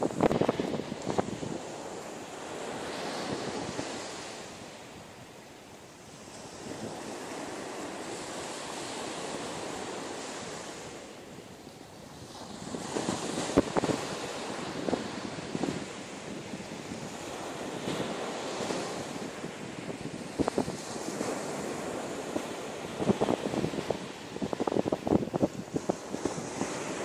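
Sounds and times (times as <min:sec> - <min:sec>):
surf washing on beach: 0:00.0 - 0:27.0
wind rumbling on microphone: 0:00.0 - 0:27.0.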